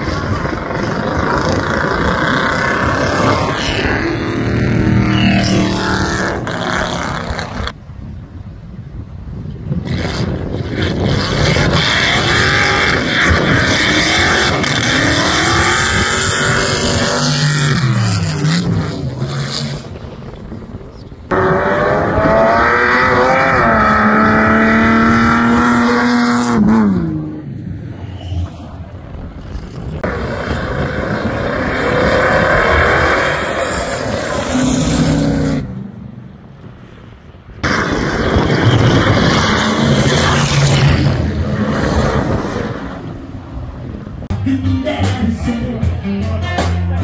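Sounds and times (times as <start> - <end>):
racing engines at full throttle: 0.0 - 7.8, 9.6 - 47.0.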